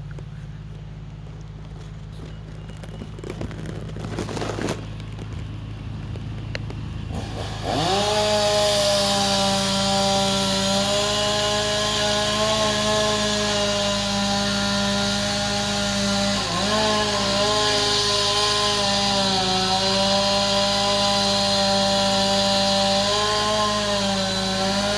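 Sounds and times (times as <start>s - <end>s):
chainsaw idling and revving: 0.0s - 24.9s.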